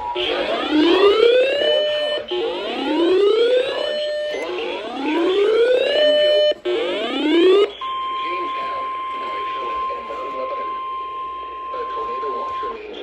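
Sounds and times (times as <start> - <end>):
electronic whooping alarm: 0.0 - 13.0.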